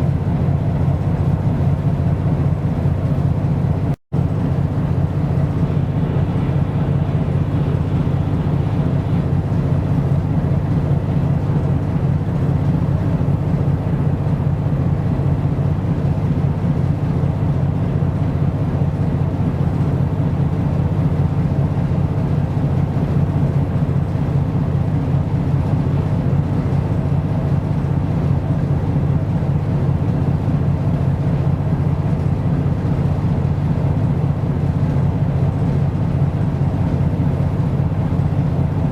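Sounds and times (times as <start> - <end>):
ship diesel engine drone: 0.0 - 38.9.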